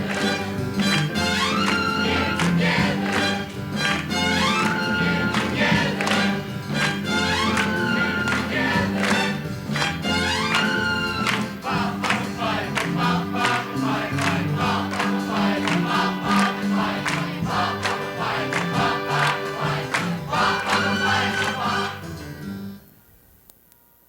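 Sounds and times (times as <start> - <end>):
band playing with steady beat: 0.0 - 22.2
choir singing: 0.0 - 22.2.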